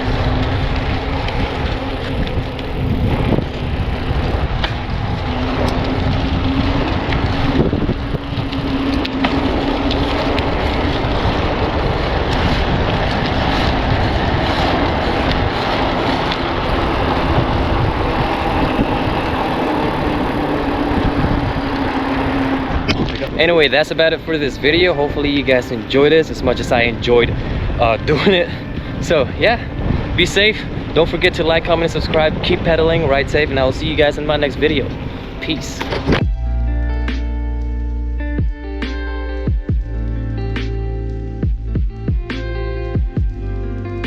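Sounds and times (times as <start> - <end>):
wind on microphone: 0.0 - 36.5
bike tyre noise: 0.0 - 44.0.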